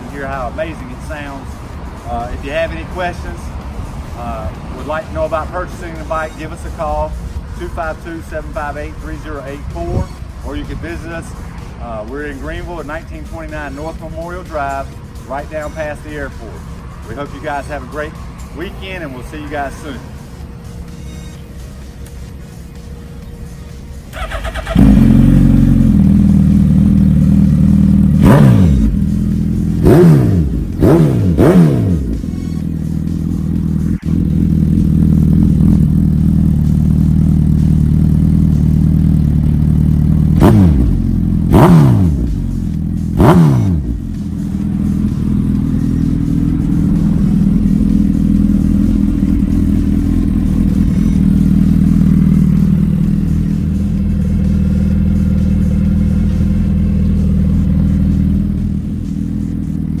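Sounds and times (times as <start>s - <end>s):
motorcycle engine idling and revving: 0.0s - 60.0s.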